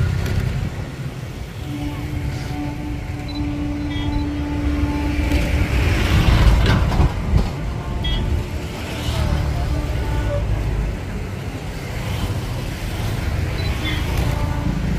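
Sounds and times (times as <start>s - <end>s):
vehicle passing: 0.0s - 14.9s
vehicle rumble: 0.0s - 14.9s.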